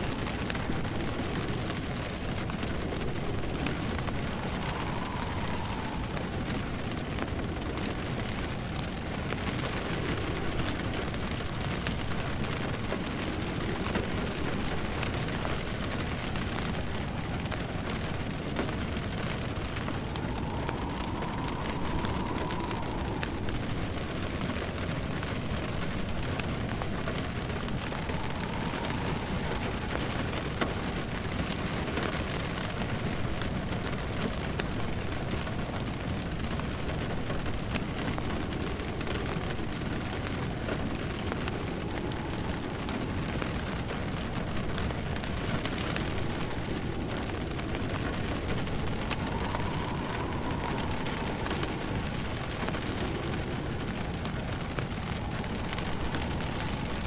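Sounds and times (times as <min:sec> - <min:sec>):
fireplace crackling: 0:00.0 - 0:32.4, 0:33.2 - 0:57.0
rain hissing on a surface: 0:00.0 - 0:57.0.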